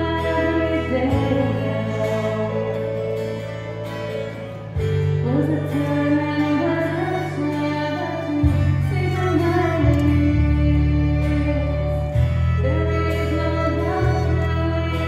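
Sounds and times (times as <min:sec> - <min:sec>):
woman singing: 0:00.0 - 0:03.3, 0:05.2 - 0:15.0
acoustic guitar: 0:00.0 - 0:15.0
low bass notes: 0:00.0 - 0:15.0
sustained keyboard chords: 0:00.0 - 0:15.0
violin melody: 0:00.0 - 0:15.0.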